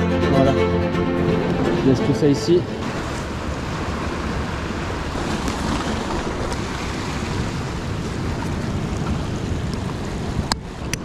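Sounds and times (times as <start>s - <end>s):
wind buffeting microphone: 1.2s - 11.0s
surf breaking over rocks: 1.4s - 11.0s.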